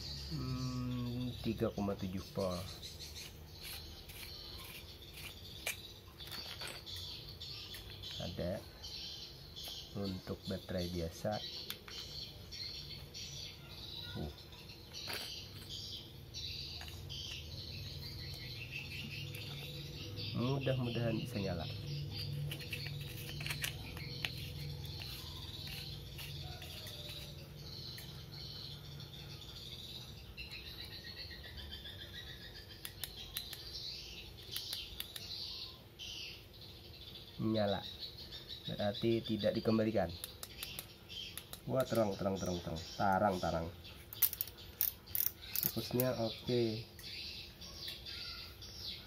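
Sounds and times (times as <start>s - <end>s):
high chirping: 0.0s - 49.0s.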